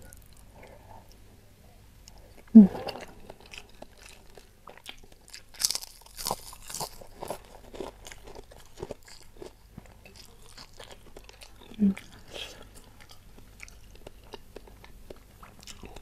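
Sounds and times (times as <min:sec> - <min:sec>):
person chewing and biting food: 0:02.0 - 0:16.0.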